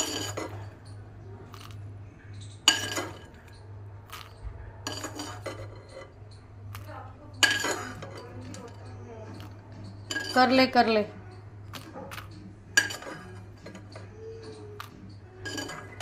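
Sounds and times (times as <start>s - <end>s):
metal kitchenware clinking: 0.0s - 16.0s.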